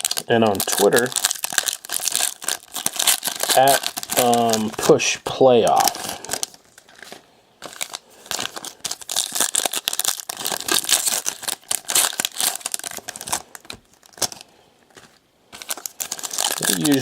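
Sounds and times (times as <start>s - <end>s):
foil wrappers crinkling and tearing: 0.0s - 17.0s.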